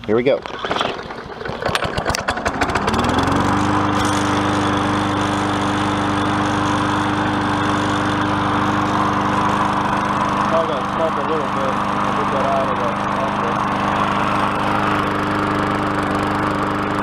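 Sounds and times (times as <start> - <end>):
lawn mower engine starting: 0.0 - 17.0
mower primer pumps: 0.0 - 17.0.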